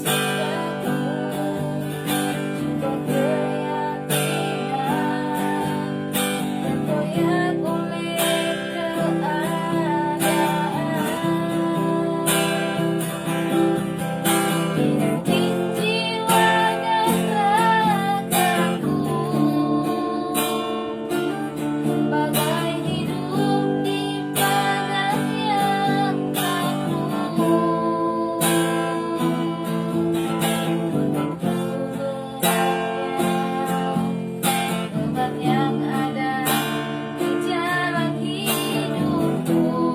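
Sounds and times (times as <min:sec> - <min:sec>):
strummed acoustic guitar: 0:00.0 - 0:39.9
woman singing with vibrato: 0:00.0 - 0:39.9.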